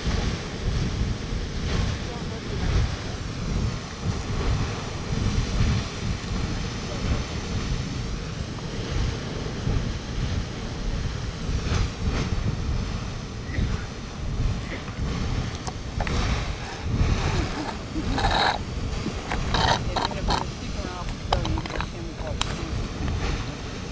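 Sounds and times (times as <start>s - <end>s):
geyser water rushing and splashing: 0.0s - 23.9s
wind rumbling on microphone: 0.0s - 23.9s.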